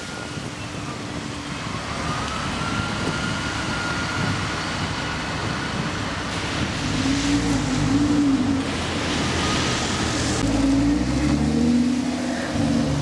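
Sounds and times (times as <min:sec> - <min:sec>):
tyres hissing on wet road: 0:00.0 - 0:13.0
low engine sound: 0:00.7 - 0:13.0.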